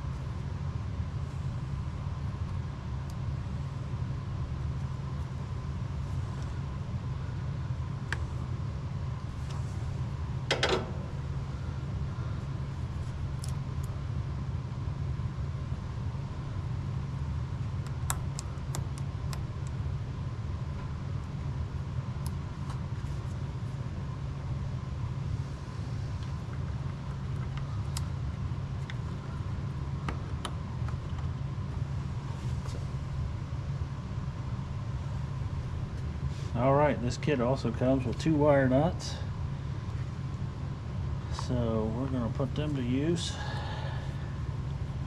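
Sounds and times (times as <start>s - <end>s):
faint whine: 0.0s - 18.6s, 19.5s - 45.0s.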